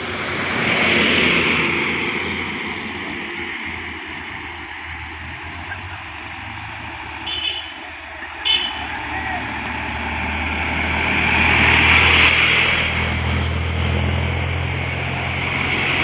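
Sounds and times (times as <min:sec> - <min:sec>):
low engine hum: 0:00.0 - 0:16.0
vehicle passing: 0:00.0 - 0:16.0.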